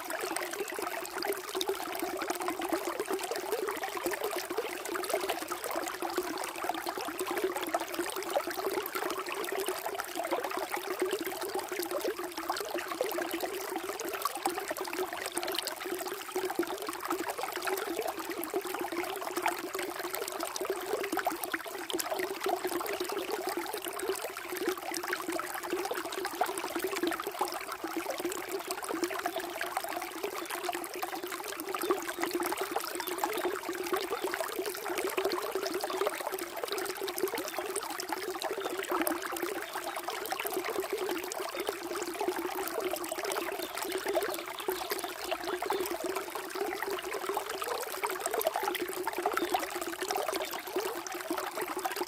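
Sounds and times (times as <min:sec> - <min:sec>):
water trickling: 0:00.0 - 0:52.0.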